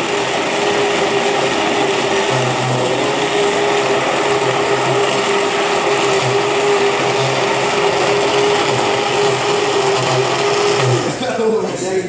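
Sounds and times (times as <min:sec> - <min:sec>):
immersion blender whining: 0:00.0 - 0:12.0.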